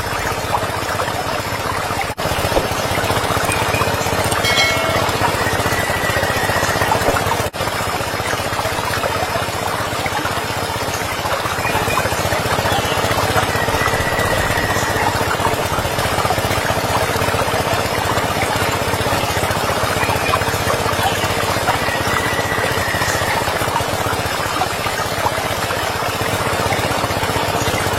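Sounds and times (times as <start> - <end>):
small motor running: 0.0 - 27.9.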